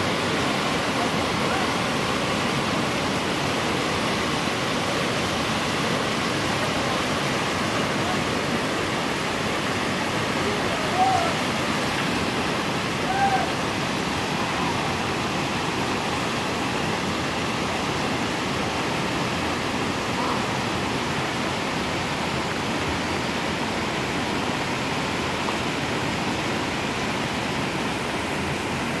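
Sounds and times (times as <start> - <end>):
floodwater rushing: 0.0 - 29.0
heavy rain: 0.0 - 29.0.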